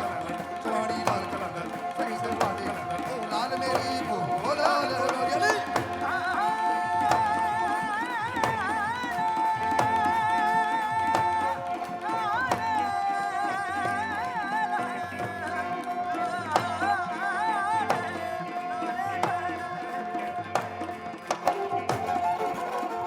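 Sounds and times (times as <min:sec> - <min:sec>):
hand drum strikes: 0:00.0 - 0:23.0
wavering folk melody: 0:00.0 - 0:23.0.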